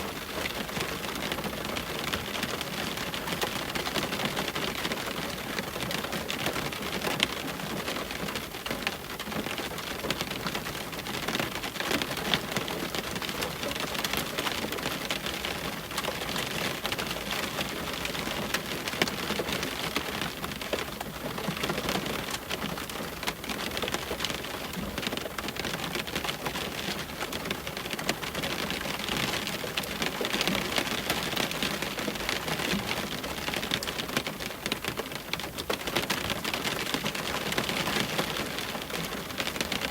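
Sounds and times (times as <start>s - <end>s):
rain hitting a window: 0.0s - 39.9s.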